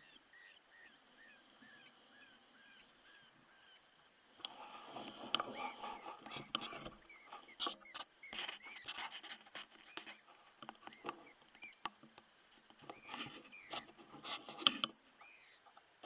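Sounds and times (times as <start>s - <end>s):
faint chirps: 0.0s - 16.0s
rustling in dry vegetation: 1.5s - 16.0s.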